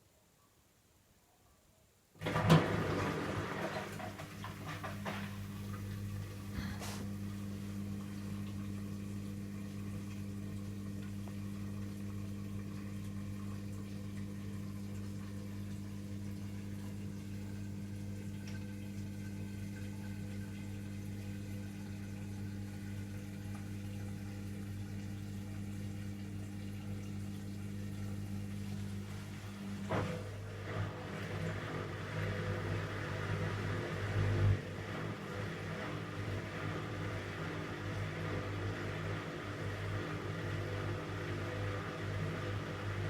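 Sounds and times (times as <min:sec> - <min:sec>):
washing machine humming: 0:02.2 - 0:43.0
water running: 0:02.2 - 0:43.0.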